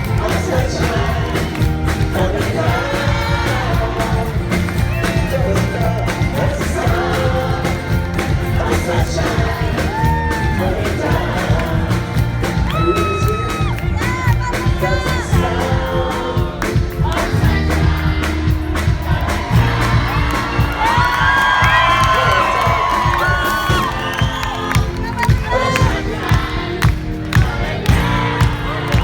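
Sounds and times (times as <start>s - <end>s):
crowd noise: 0.0s - 29.0s
live band with singing: 0.0s - 29.0s.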